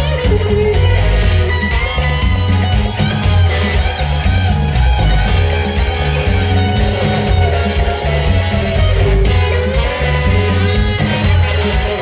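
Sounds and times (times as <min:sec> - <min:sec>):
instrumental guitar music: 0:00.0 - 0:12.0
repeating bass line: 0:00.0 - 0:12.0.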